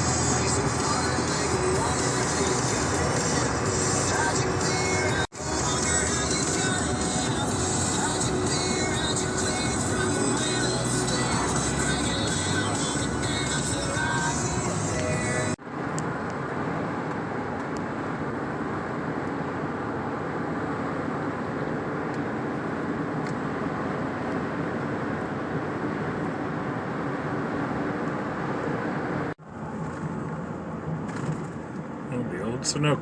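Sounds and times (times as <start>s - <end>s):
vehicle road and engine noise: 0.0s - 33.0s.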